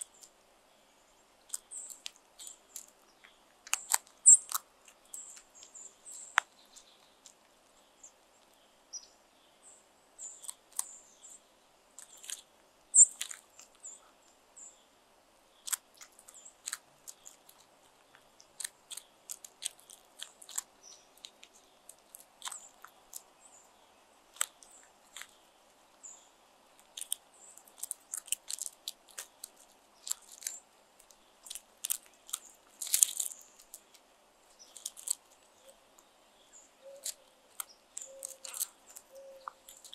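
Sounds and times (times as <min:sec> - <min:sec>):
crows pecking on gravel: 0:01.4 - 0:08.6, 0:11.9 - 0:14.4, 0:15.5 - 0:36.2, 0:36.8 - 0:39.9.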